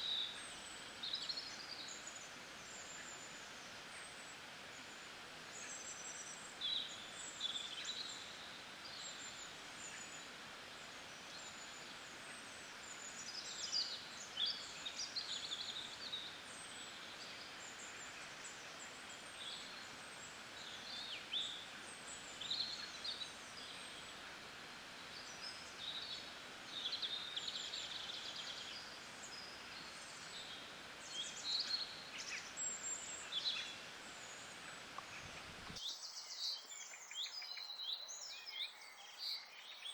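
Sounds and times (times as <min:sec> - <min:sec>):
steady soft hiss: 0:00.0 - 0:39.9.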